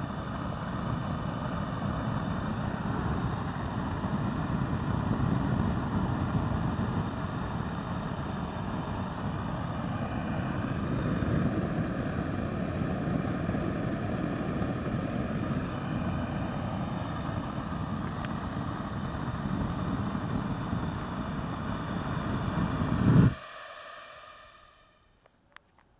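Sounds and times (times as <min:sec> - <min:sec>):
gas burner roaring: 0:00.0 - 0:25.0.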